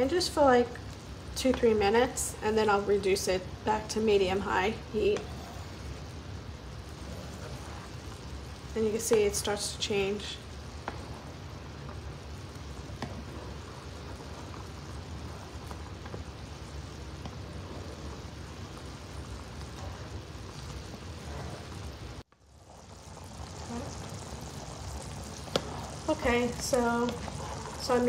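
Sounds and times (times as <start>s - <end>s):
sauce bubbling with a hiss: 0.0s - 28.0s.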